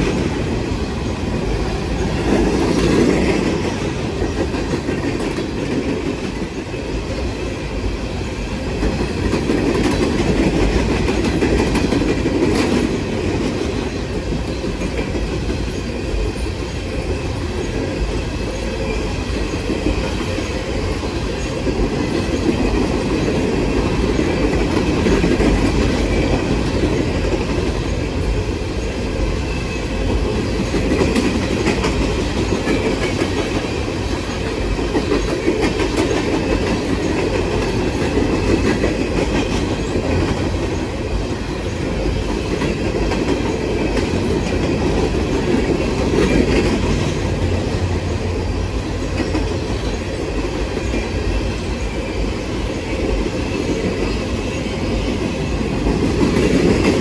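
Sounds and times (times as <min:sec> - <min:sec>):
train cars rumbling past: 0:00.0 - 0:57.0.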